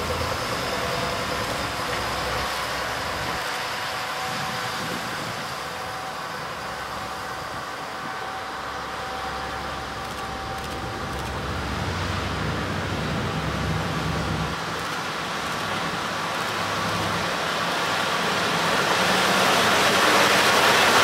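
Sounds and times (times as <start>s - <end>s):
diesel train engines running: 0.0s - 21.0s.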